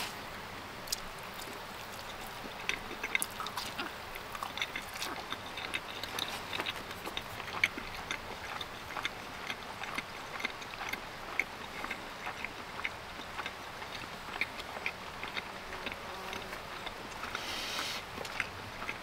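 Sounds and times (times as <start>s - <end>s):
faint steady hiss: 0.0s - 19.0s
chewing crunches: 0.8s - 19.0s.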